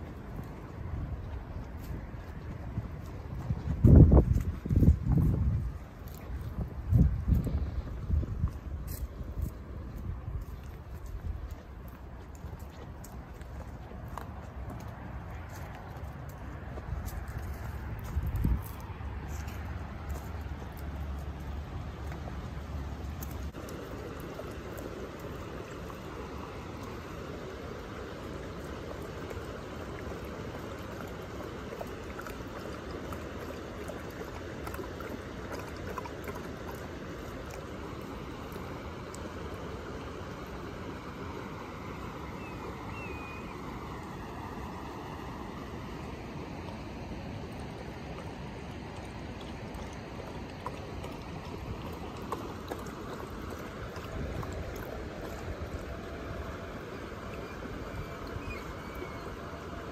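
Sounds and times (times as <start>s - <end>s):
dog lapping water: 0.0s - 59.9s
faint ticks and small splashes: 0.0s - 59.9s
rushing creek water: 0.0s - 59.9s
stream flowing: 0.0s - 59.9s.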